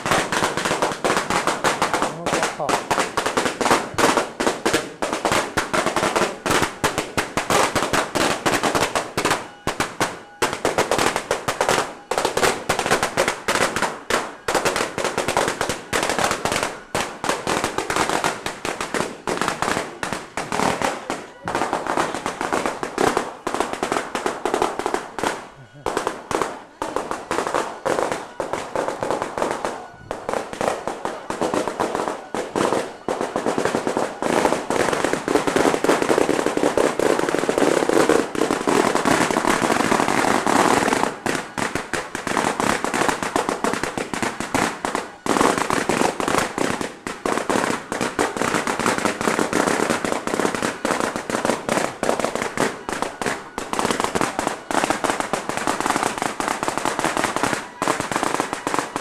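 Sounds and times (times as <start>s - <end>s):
firecrackers going off: 0.0s - 59.0s.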